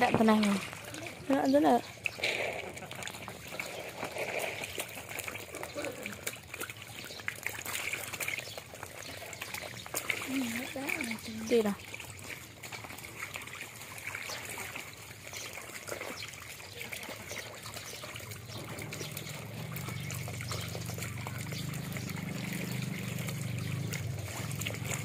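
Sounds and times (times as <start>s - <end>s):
frogs splashing and clicking: 0.0s - 25.0s
water trickling: 0.0s - 25.0s.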